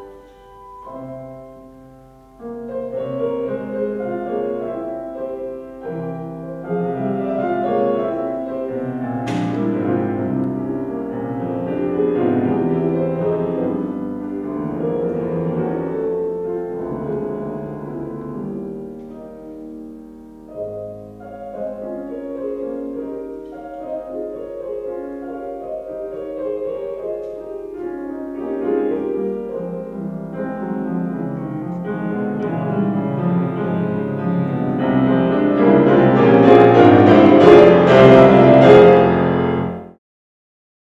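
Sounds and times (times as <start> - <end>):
solo classical piano: 0.0 - 40.0.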